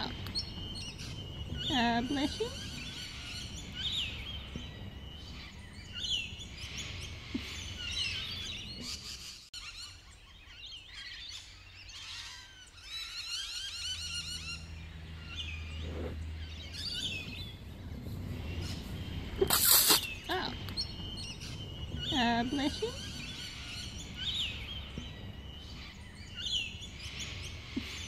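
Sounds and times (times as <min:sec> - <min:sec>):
steady low rumble: 0:00.0 - 0:09.1, 0:12.8 - 0:28.0
birds chirping and singing: 0:00.0 - 0:28.0.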